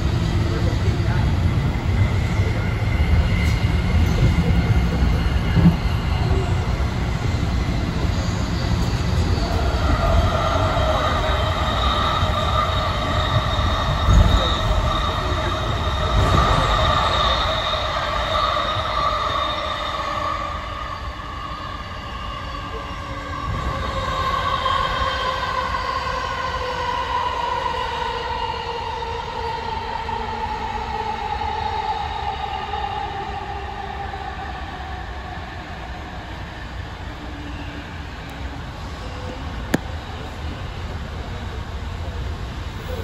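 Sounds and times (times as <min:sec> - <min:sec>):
train running with low rumble: 0:00.0 - 0:43.0.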